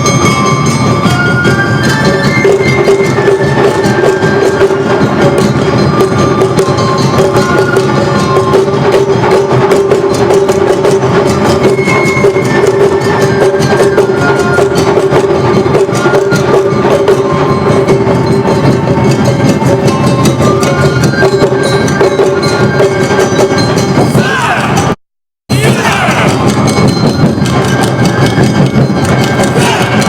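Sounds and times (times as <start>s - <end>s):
taiko drums: 0.0s - 30.0s.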